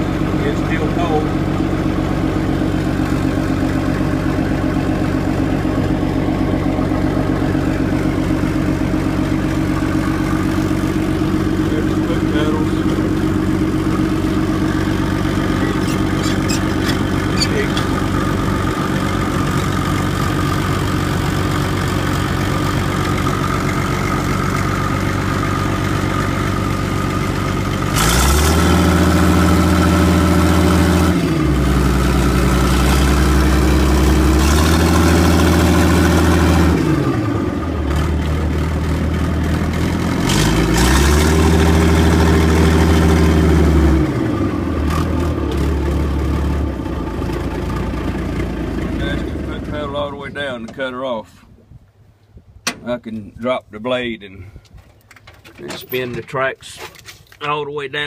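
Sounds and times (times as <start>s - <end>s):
diesel engine idling and revving: 0.0s - 52.2s.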